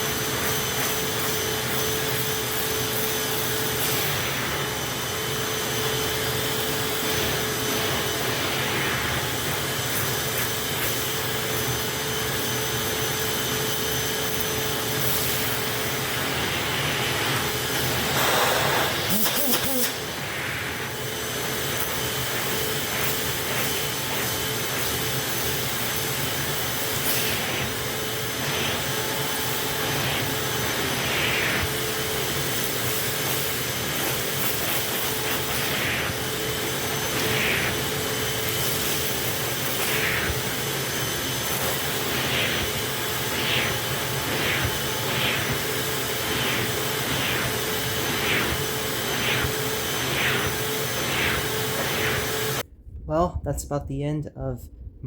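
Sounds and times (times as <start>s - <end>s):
vacuum cleaner motor hum: 0.0s - 52.7s.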